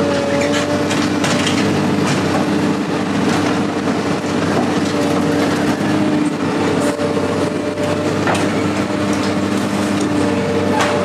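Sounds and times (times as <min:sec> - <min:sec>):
large engine running: 0:00.0 - 0:11.0.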